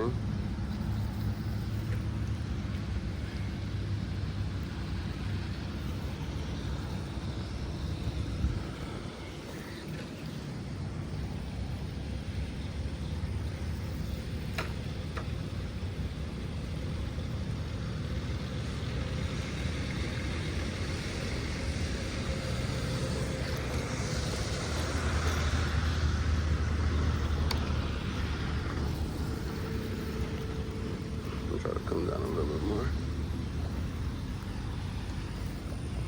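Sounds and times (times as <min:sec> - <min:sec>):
road vehicle passing: 0:00.0 - 0:36.0.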